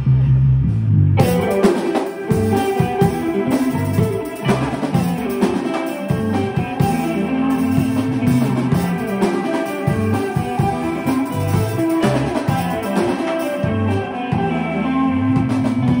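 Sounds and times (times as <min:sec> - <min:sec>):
bass line: 0:00.0 - 0:16.0
live rock band playing: 0:01.2 - 0:16.0.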